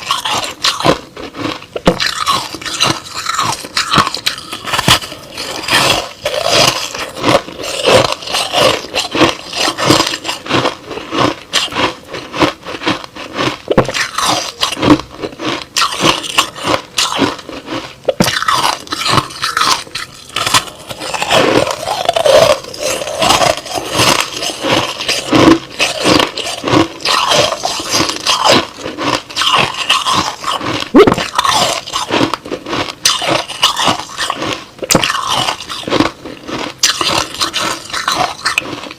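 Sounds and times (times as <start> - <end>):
crushed ice being chewed: 0.0 - 38.9.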